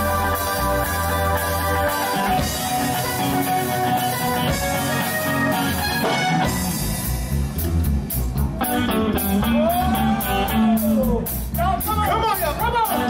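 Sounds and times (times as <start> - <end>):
live soul band playing: 0.0 - 13.0.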